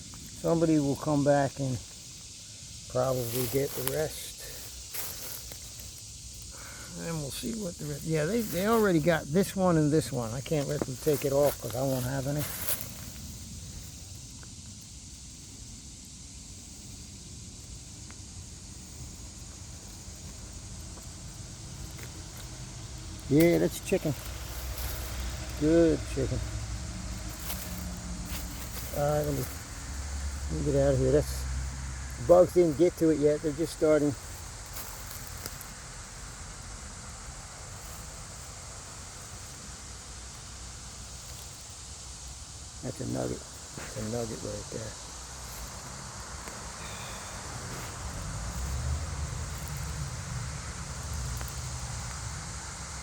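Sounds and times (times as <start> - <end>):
high hiss: 0.0 - 53.0.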